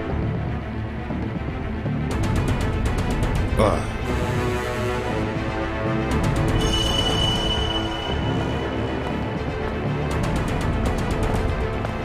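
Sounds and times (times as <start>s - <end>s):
dramatic music with percussive beat: 0.0s - 12.0s.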